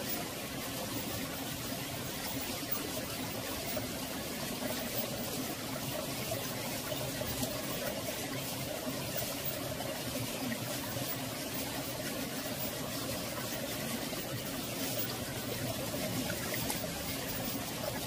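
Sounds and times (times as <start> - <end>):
stream babbling: 0.0 - 18.0.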